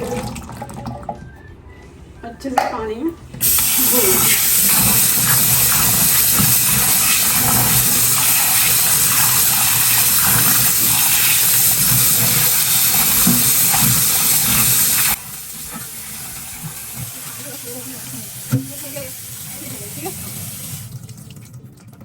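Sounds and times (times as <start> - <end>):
kitchen tap running: 3.4 - 22.0.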